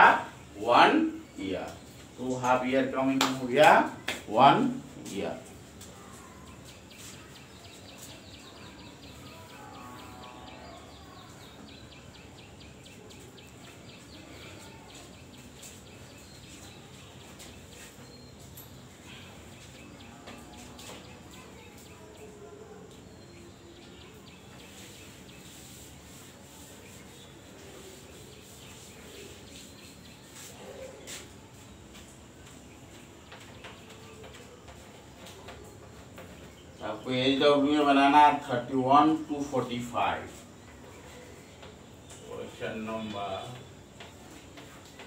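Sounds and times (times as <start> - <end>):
faint room background noise: 0.0 - 45.0.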